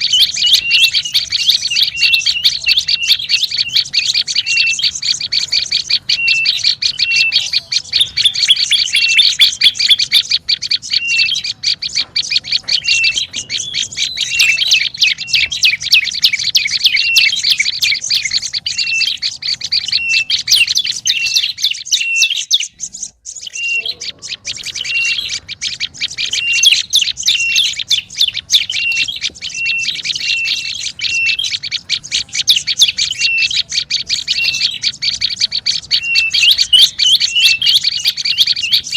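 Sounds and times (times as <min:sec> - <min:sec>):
bird chattering chirps: 0:00.0 - 0:38.9.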